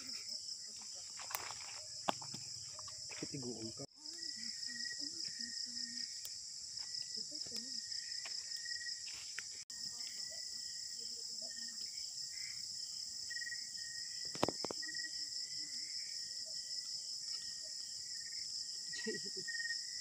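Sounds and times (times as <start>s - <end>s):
rapid pulsing insect chirp: 0.0s - 20.0s.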